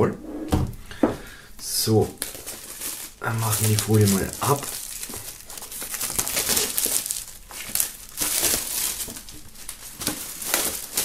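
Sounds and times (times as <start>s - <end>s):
plastic film crinkling: 1.6s - 11.0s.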